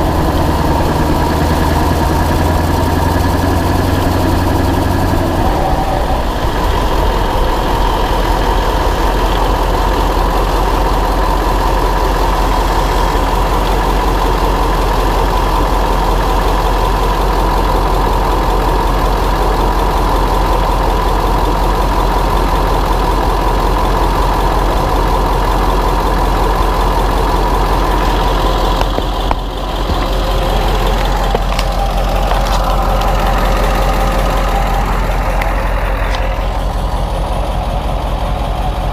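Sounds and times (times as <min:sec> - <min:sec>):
diesel truck engine running: 0:00.0 - 0:38.9
road noise: 0:00.0 - 0:38.9.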